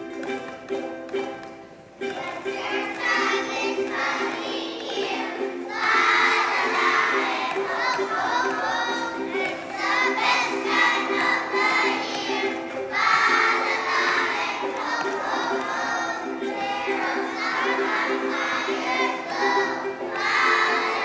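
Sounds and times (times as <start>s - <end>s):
children's choir singing: 0.0s - 21.0s
instrumental accompaniment: 0.0s - 21.0s.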